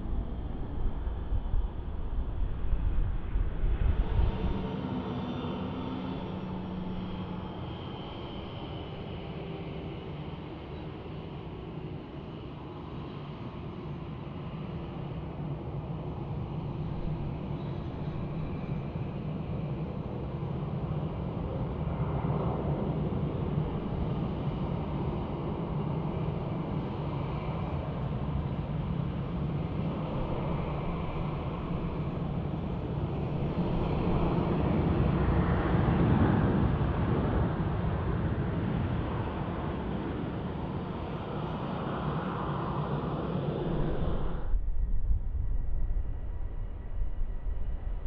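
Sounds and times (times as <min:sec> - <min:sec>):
jet engines droning: 0:00.0 - 0:48.0.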